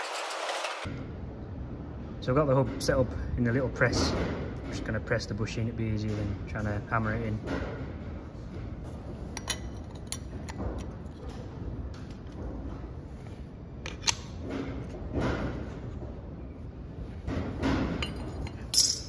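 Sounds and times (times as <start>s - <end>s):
low workshop background noise: 0.0s - 19.0s.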